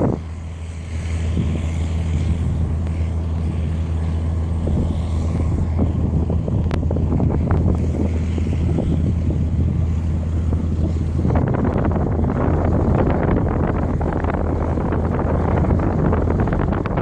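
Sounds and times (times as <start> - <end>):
steady low hum: 0.0 - 17.0
strong wind buffeting microphone: 0.0 - 17.0.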